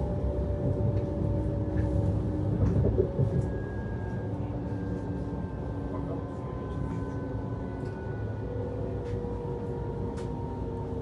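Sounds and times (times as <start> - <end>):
faint steady whines: 0.0 - 11.0
train cabin low rumble: 0.0 - 11.0.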